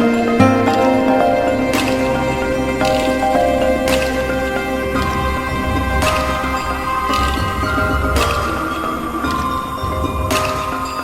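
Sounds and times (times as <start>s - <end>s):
background music with deep beat: 0.0s - 11.0s.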